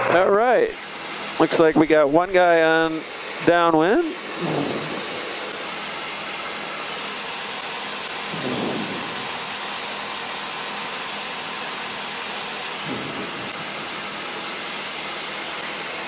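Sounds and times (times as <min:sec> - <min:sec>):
aircraft cockpit hiss: 0:01.3 - 0:16.0.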